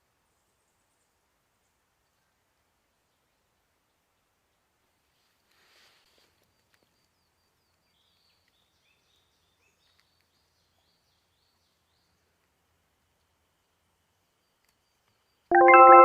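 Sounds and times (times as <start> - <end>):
faint bird song: 0.0 - 15.5.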